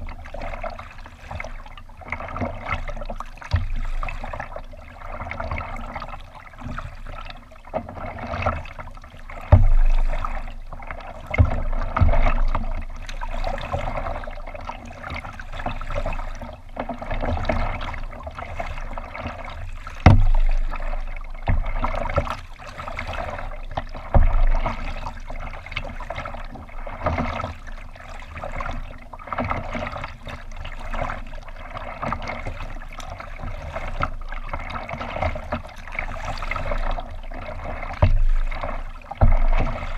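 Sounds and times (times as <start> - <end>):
water lapping against kayak hull: 0.0 - 39.9.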